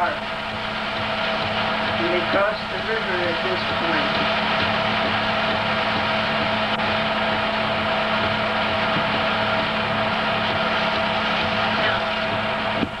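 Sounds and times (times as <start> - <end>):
film projector motor and fan hum: 0.0 - 13.0.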